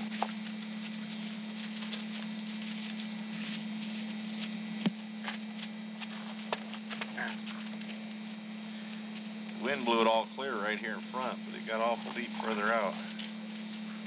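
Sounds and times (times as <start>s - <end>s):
camcorder low hum: 0.0s - 14.0s
faint clicks and crackles: 0.0s - 14.0s.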